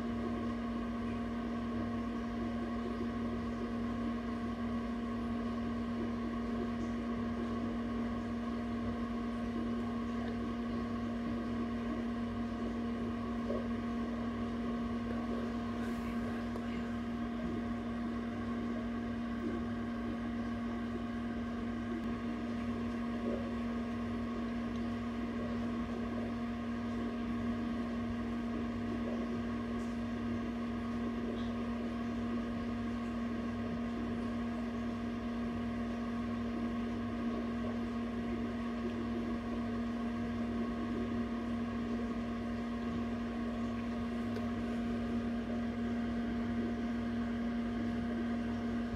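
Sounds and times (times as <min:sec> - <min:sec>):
egg incubator humming: 0:00.0 - 0:48.9.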